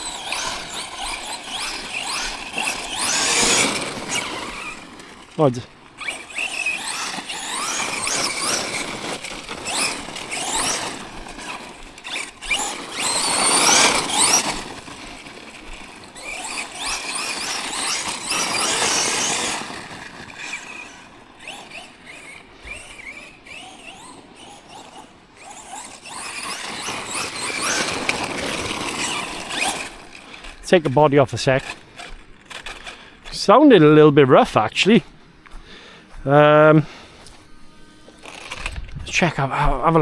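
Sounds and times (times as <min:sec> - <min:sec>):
rc truck motor whining: 0:00.0 - 0:40.0
tyres on gravel: 0:00.0 - 0:40.0.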